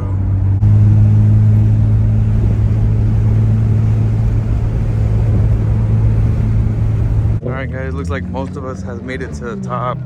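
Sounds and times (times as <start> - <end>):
car engine droning: 0.0 - 10.0
road rumble: 0.0 - 10.0.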